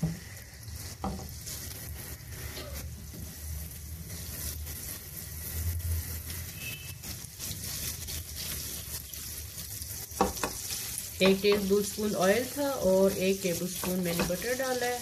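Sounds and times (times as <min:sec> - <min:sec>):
oil sizzling in a frying pan: 0:00.0 - 0:15.0.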